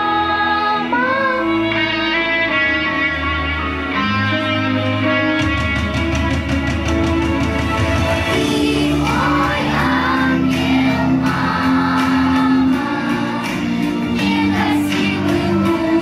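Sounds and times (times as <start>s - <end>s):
bass line: 0.0s - 16.0s.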